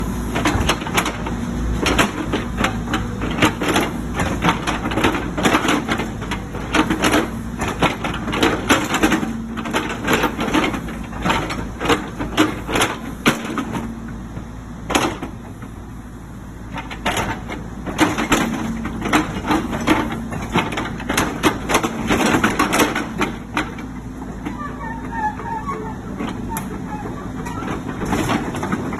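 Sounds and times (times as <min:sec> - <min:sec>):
excavator engine hum: 0:00.0 - 0:28.9
metal clanks and knocks: 0:00.4 - 0:14.0, 0:16.7 - 0:28.9.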